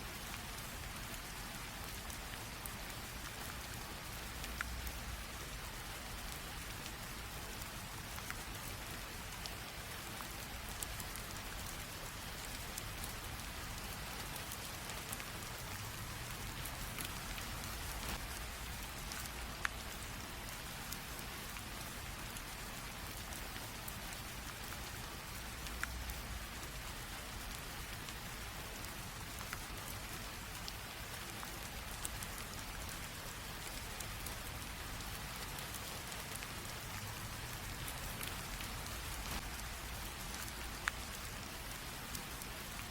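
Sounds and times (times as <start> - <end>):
light rain hissing: 0.0 - 42.9.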